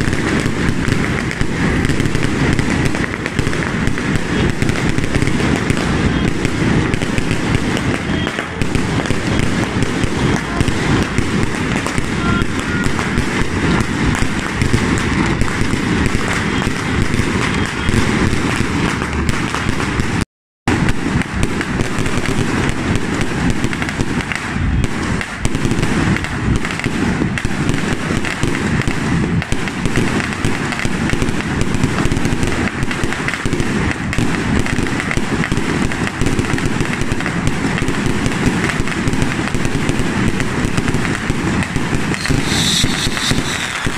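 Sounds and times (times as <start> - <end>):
firecrackers crackling and banging: 0.0 - 43.9.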